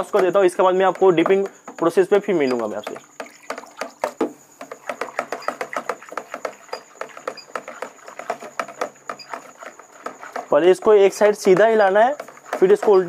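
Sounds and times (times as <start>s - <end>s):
liquid sloshing in plastic bucket: 0.0s - 13.0s
stirring strokes clattering: 0.0s - 13.0s.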